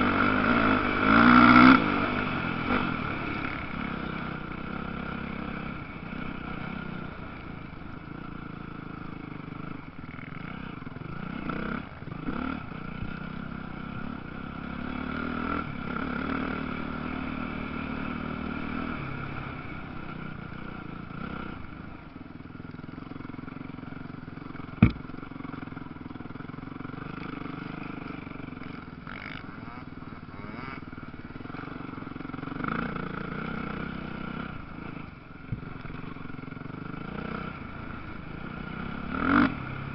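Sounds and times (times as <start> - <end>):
motocross bike engines revving: 0.0 - 22.0, 23.0 - 39.9.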